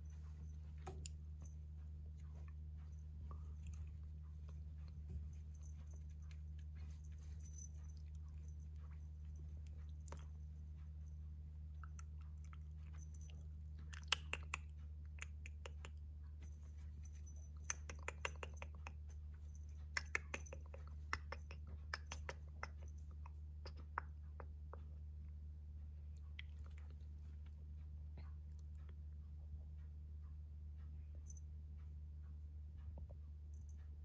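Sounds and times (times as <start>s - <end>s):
kitten chewing and scuffling: 0.0s - 29.8s
low steady hum: 0.0s - 34.0s.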